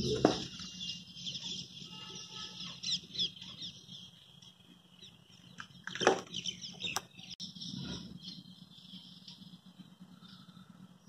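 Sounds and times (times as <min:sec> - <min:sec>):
low steady hum: 0:00.0 - 0:11.0
small birds chirping and twittering: 0:00.0 - 0:11.0.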